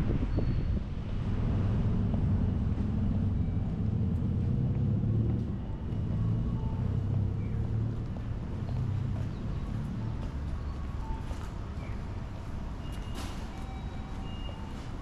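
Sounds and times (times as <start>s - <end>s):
low vehicle rumble: 0.0s - 12.8s.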